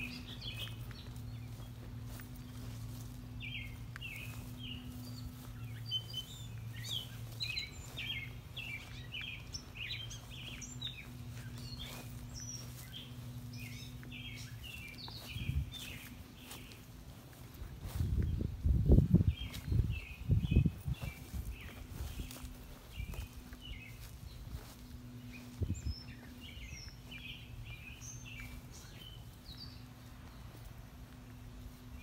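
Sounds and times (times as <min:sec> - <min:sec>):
small birds chirping: 0:00.0 - 0:32.0
steady low hum: 0:00.0 - 0:32.0.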